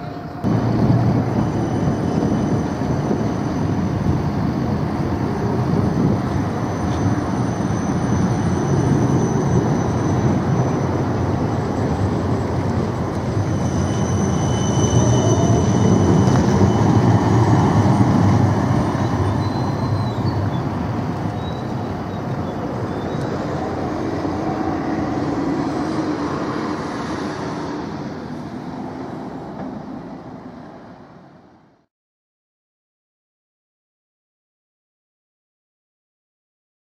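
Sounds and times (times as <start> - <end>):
tram rumbling past: 0.0 - 31.9.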